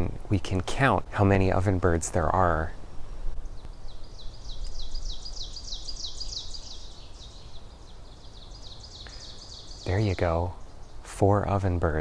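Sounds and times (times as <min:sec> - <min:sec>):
ovenbirds singing: 0:00.9 - 0:12.0.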